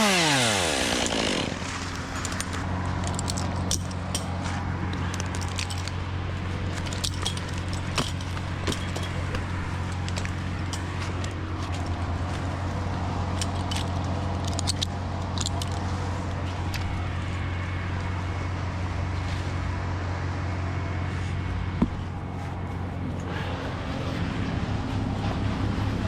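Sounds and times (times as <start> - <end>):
engine droning steadily: 0.0 - 26.0.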